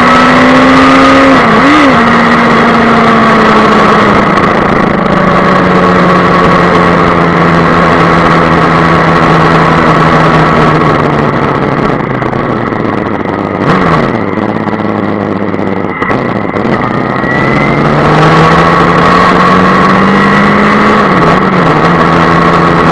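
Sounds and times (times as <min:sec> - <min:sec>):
motorcycle engine accelerating: 0:00.0 - 0:22.9
wind noise: 0:00.0 - 0:22.9.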